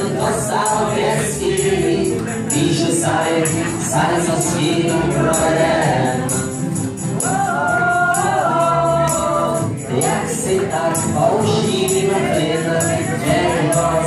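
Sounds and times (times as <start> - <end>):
acoustic instruments: 0.0 - 14.0
jingling percussion beat: 0.0 - 14.0
voices singing: 0.0 - 14.0.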